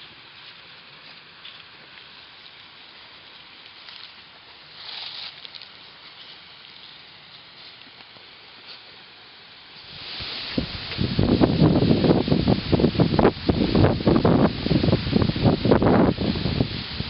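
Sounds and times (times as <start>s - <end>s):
soil pattering on dry leaves: 0.0s - 17.0s.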